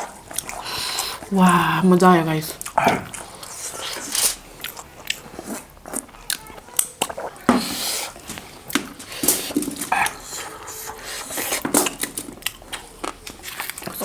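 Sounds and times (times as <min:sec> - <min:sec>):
wet chewing and lip smacking: 0:00.0 - 0:01.8, 0:02.5 - 0:14.0.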